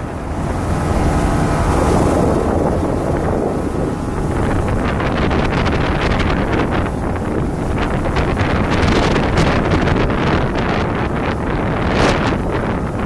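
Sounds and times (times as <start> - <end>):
hull slapping water: 0.0 - 13.0
rushing water: 0.0 - 13.0
speedboat engine: 0.0 - 13.0
wind buffeting microphone: 0.0 - 13.0.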